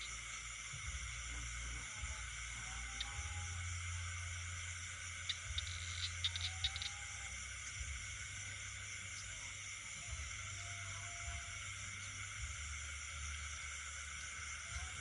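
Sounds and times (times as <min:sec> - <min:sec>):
faint low drawn-out call: 0:00.0 - 0:15.0
shrill insect trilling: 0:00.0 - 0:15.0.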